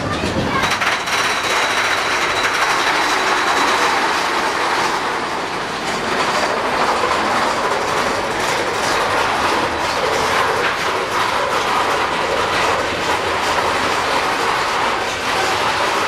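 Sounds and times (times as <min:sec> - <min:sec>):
roller coaster cars rattling: 0:00.0 - 0:16.0.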